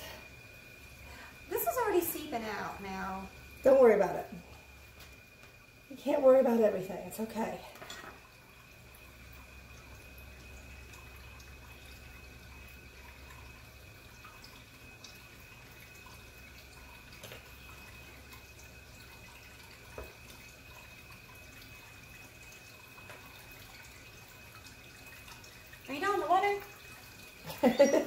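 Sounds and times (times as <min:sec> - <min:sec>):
faint steady hum: 0:00.0 - 0:28.0
thin high whine: 0:00.0 - 0:28.0.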